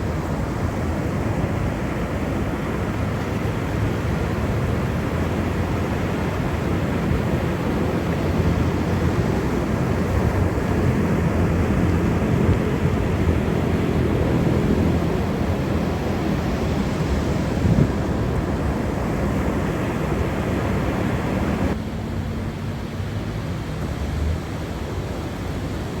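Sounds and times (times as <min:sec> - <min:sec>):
wind buffeting microphone: 0:00.0 - 0:21.8
ocean surf: 0:00.0 - 0:26.0.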